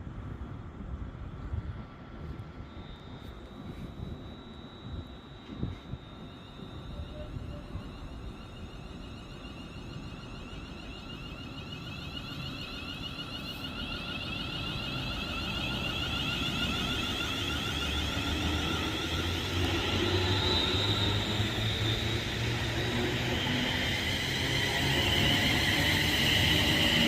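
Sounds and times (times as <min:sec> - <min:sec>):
train approaching: 0:00.0 - 0:27.0.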